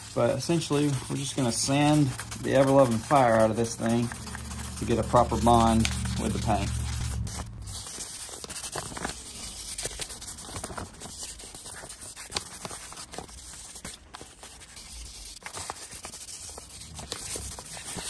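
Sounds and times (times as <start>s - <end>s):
sandpaper rubbing on metal: 0.0s - 18.0s.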